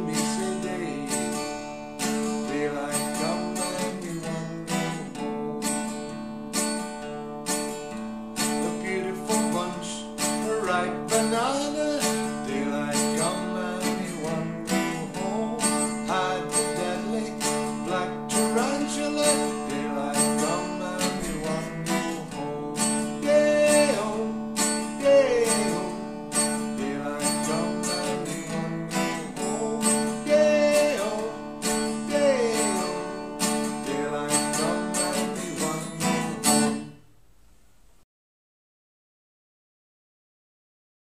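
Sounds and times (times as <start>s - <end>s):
acoustic guitar strumming chords: 0.0s - 37.6s.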